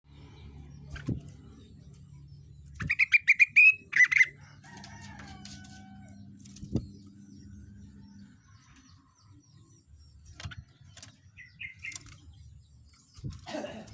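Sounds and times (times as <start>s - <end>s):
songbird singing trills: 0.1s - 13.9s.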